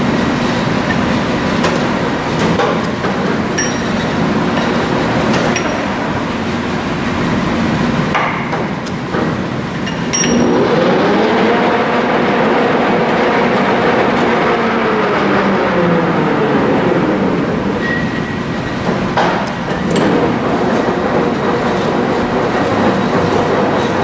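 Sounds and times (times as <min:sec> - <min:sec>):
lathe gear whine and rattle: 0:00.0 - 0:24.0.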